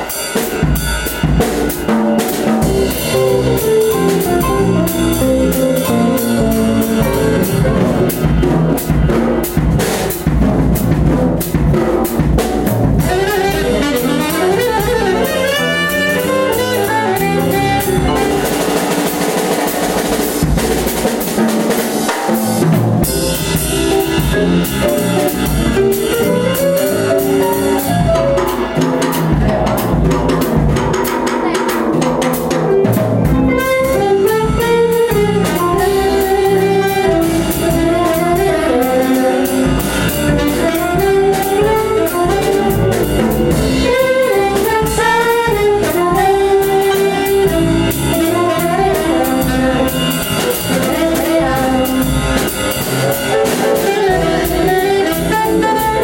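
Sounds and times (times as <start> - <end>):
jazz backing track with drums: 0.0 - 56.0.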